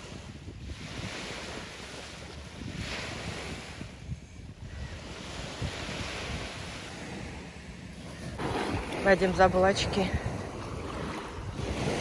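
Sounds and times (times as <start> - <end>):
sea waves washing onto beach: 0.0 - 4.1, 4.7 - 12.0.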